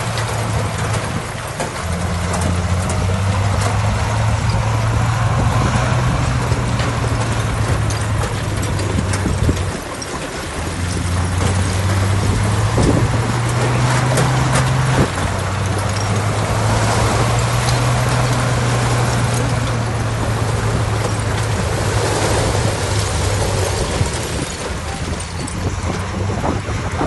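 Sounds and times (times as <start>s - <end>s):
diesel engine running: 0.0s - 27.0s
scraping grinding noise: 0.0s - 27.0s.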